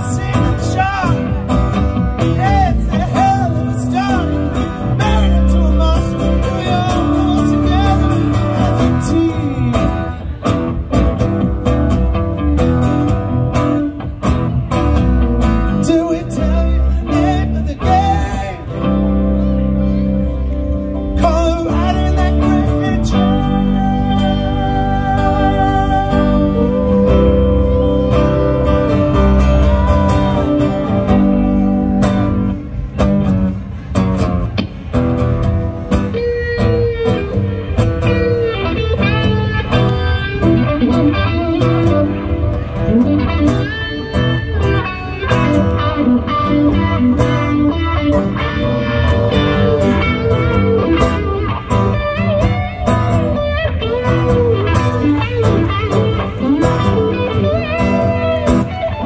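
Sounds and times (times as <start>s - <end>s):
accompanying guitar: 0.0s - 59.0s
lead guitar bending notes: 0.0s - 59.0s.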